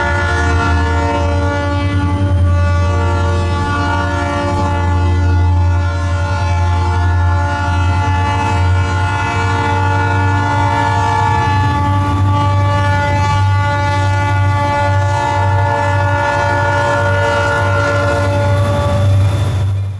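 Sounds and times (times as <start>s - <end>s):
locomotive air horn chord: 0.0s - 19.4s
deep locomotive rumble: 0.0s - 19.9s.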